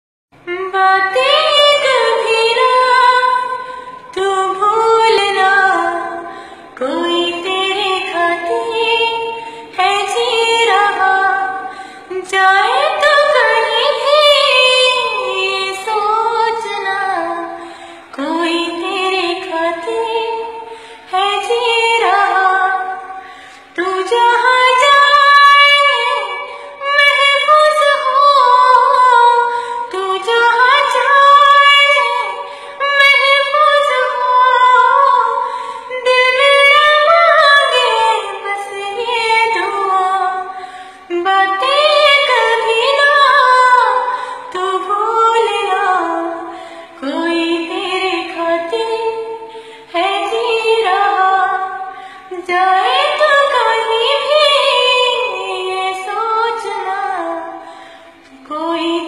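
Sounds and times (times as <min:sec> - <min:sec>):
woman singing unaccompanied: 0:00.4 - 0:57.6, 0:58.3 - 0:59.0.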